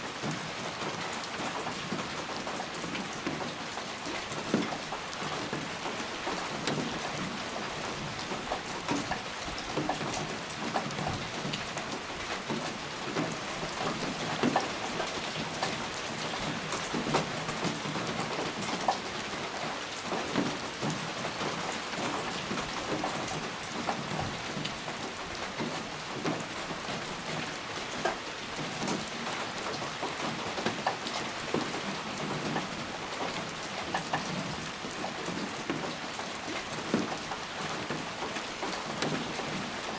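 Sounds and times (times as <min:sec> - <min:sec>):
steady rain falling: 0:00.0 - 0:39.9
raindrop ticks and splats: 0:01.0 - 0:39.9.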